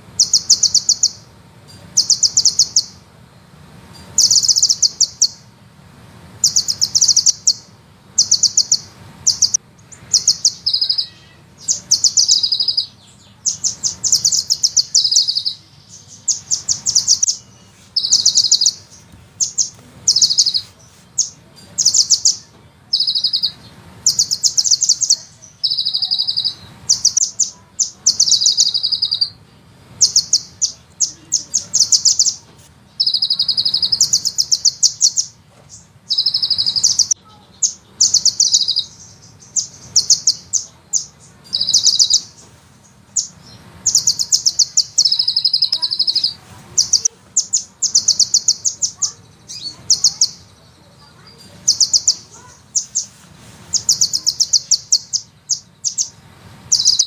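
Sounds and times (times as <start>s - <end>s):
bird trilling song: 0.0s - 3.1s, 3.9s - 5.6s, 6.4s - 57.0s.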